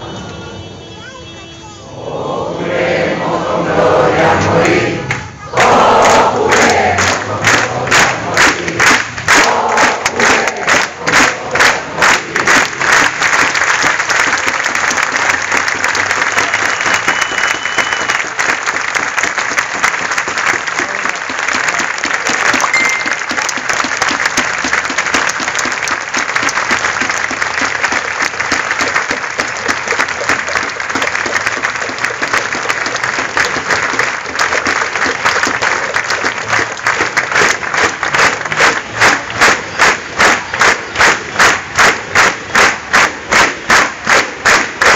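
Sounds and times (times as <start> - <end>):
rhythmic clapping: 4.6 - 44.9
crowd applause: 5.0 - 44.9.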